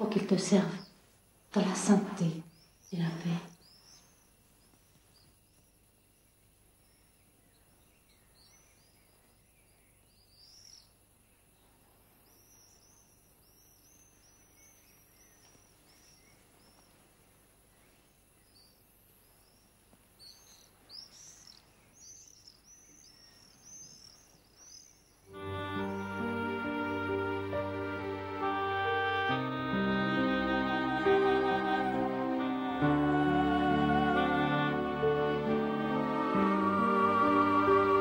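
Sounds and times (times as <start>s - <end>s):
birds chirping: 0.0s - 1.0s, 1.6s - 38.0s
low steady hiss: 0.0s - 38.0s.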